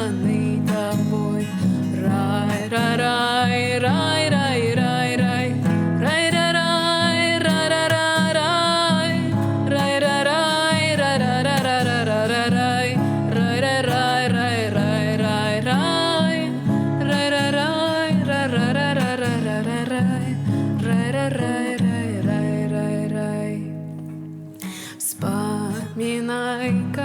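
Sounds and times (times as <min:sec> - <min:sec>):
wordless singing: 0:00.0 - 0:23.7
strummed acoustic guitar chords: 0:00.0 - 0:27.0.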